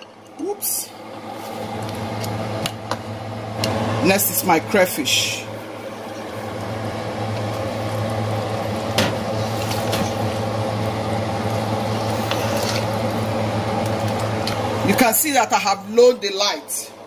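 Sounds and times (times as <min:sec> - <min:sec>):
soup boiling and bubbling: 0:00.0 - 0:04.0, 0:04.8 - 0:14.9
low hum: 0:00.0 - 0:15.1.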